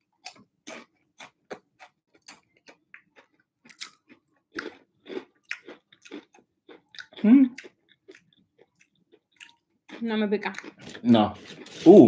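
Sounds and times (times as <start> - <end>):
chips crunching while chewed: 0.3 - 12.0.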